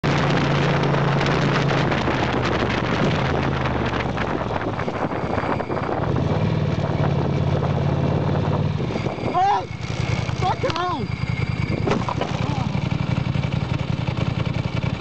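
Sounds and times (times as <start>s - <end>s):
wind noise on microphone: 0.0s - 12.8s
motorcycle engine running: 0.0s - 15.0s.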